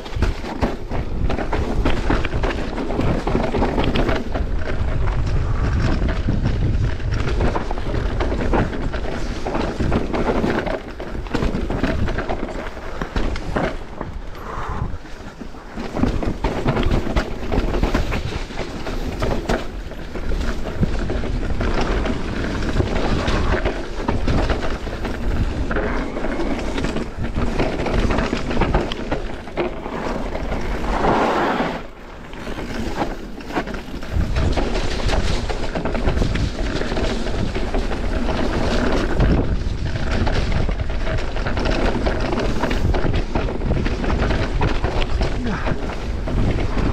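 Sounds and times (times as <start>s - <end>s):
bike rattling over rocks: 0.0s - 46.9s
wind buffeting microphone: 0.0s - 46.9s.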